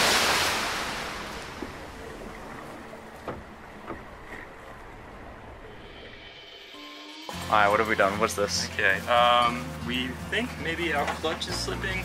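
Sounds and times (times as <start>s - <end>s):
sea water washing: 0.0s - 12.0s.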